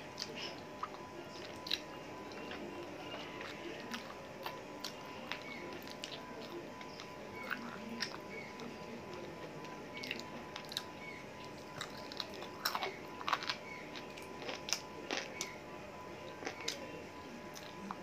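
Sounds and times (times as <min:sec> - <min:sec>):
person chewing and biting meat: 0:00.0 - 0:15.6.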